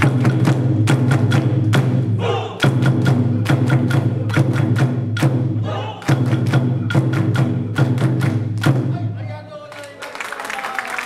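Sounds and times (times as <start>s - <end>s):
taiko drum strikes: 0.0s - 9.2s.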